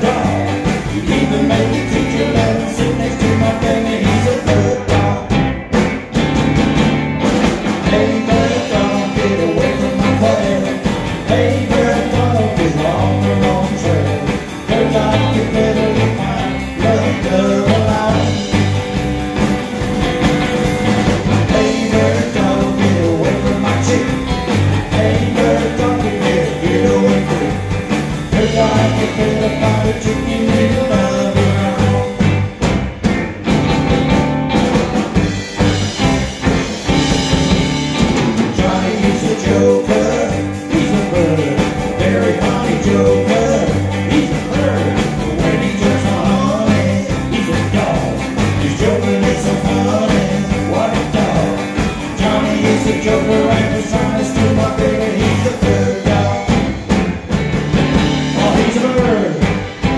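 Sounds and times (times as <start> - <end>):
drum kit: 0.0 - 59.9
electric guitars: 0.0 - 59.9
pulsing bass line: 0.0 - 59.9.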